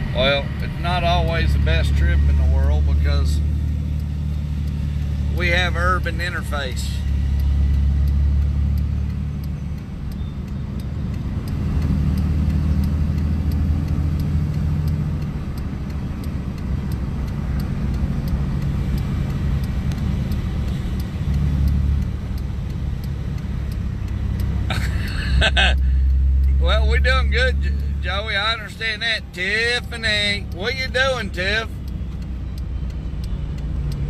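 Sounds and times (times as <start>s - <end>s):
engine and road noise in vehicle: 0.0s - 34.0s.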